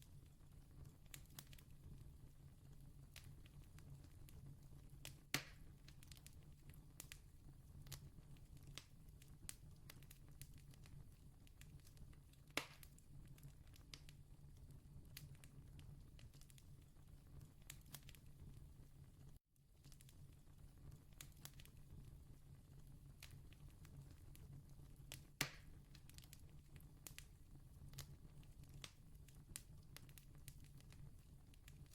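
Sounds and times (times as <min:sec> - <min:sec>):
distant campfire crackling: 0:00.0 - 0:31.9.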